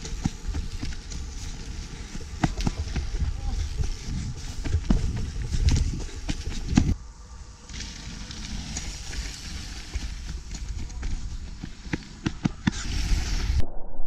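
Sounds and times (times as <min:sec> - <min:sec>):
wind on microphone: 0:00.0 - 0:07.1, 0:08.0 - 0:14.0
bike tyres rumbling on dirt: 0:00.0 - 0:13.6.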